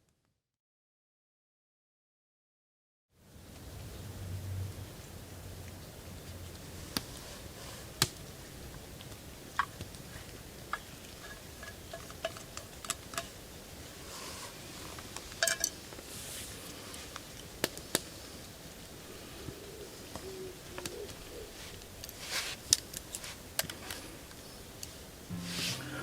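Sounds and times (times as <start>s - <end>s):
faint steady hiss: 3.1s - 26.0s.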